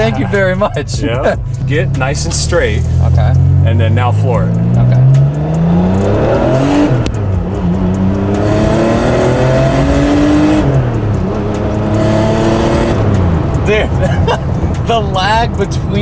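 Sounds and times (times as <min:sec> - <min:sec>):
car engine at full throttle: 0:00.0 - 0:16.0.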